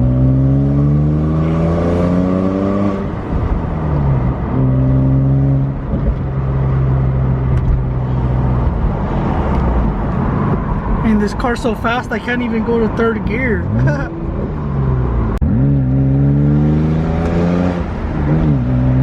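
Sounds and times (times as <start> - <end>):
car engine accelerating: 0.0 - 11.2, 12.9 - 19.0.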